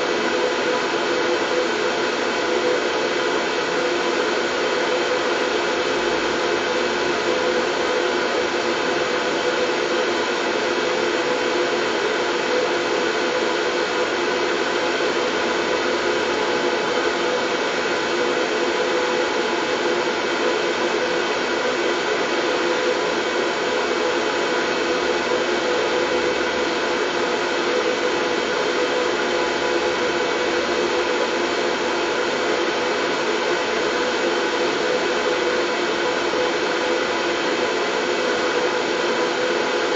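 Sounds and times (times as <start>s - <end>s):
steady white noise: 0.0s - 39.9s.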